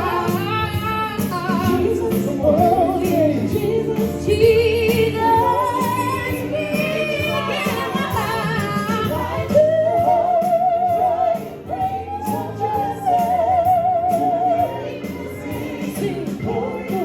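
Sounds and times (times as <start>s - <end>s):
band accompaniment: 0.0s - 17.0s
person singing gospel: 0.0s - 17.0s.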